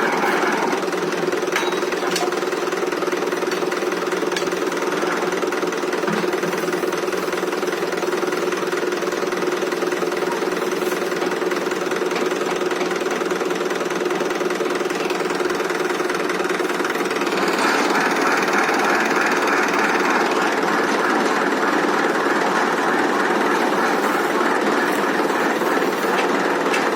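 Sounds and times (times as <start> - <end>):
tractor diesel engine clattering: 0.0 - 26.9.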